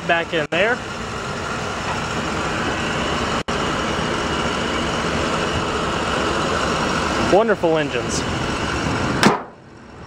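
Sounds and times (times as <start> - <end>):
van engine idling: 0.0 - 10.0.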